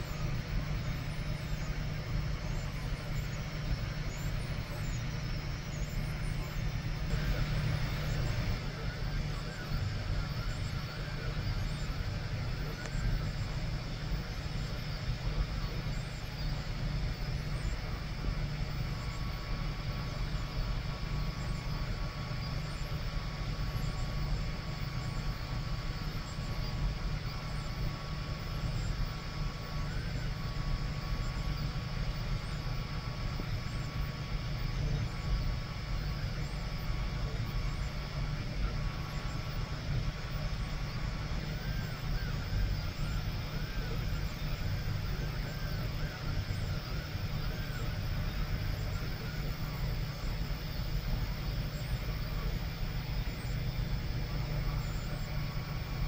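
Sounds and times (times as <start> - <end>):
printer fan and motors humming: 0.0 - 56.0
stepper motor whine: 0.0 - 56.0.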